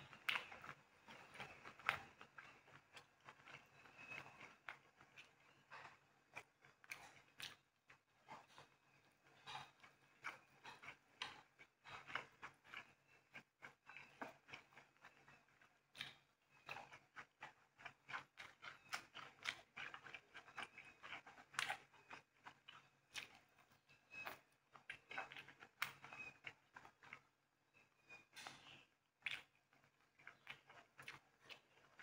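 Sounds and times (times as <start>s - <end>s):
clicks and rustles of eating: 0.0s - 32.0s.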